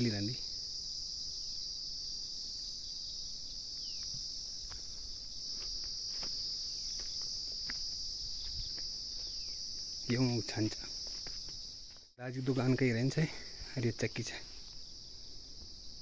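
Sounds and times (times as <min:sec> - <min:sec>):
high-pitched insects shrilling: 0:00.0 - 0:16.0.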